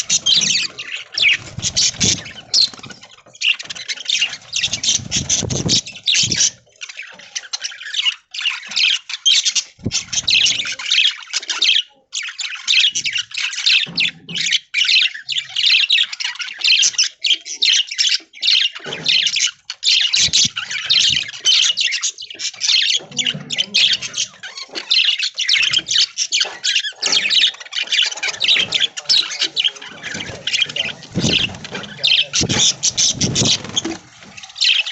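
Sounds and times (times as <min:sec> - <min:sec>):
budgies chattering and squawking: 0:00.0 - 0:34.9.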